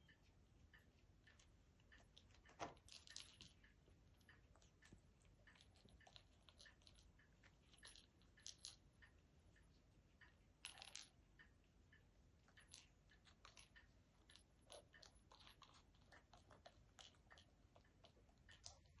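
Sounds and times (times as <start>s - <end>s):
cat chewing: 0.2s - 19.0s.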